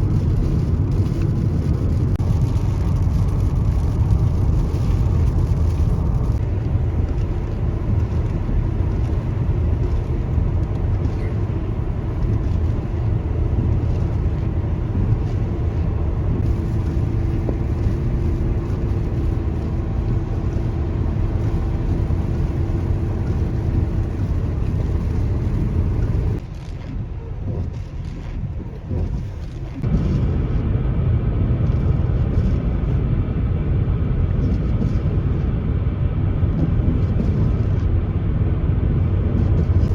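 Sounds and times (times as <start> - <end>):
car driving road noise: 0.0 - 39.9.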